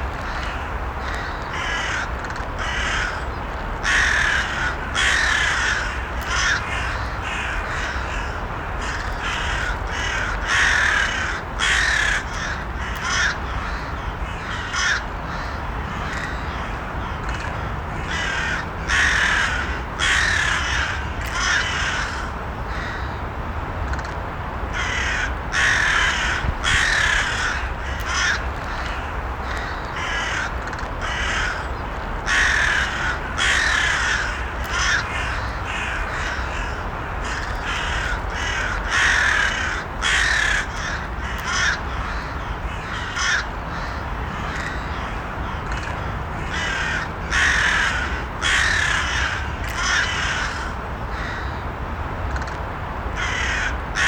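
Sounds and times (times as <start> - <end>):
low background noise: 0.0 - 54.0
crows cawing: 0.2 - 23.2, 24.7 - 51.6, 53.2 - 54.0.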